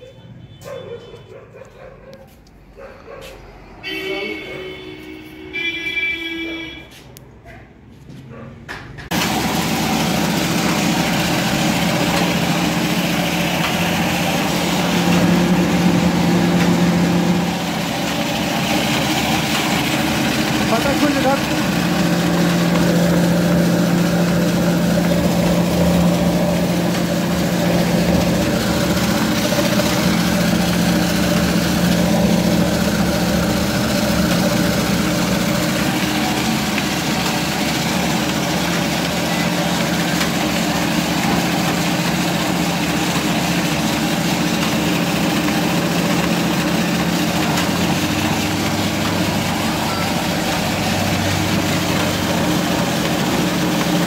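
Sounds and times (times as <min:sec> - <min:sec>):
grinding mill humming and grinding: 0:09.0 - 0:54.0.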